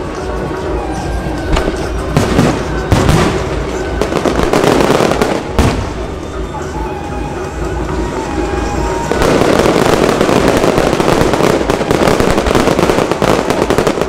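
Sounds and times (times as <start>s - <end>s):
fireworks crackling bangs: 1.3s - 6.5s, 7.5s - 14.0s.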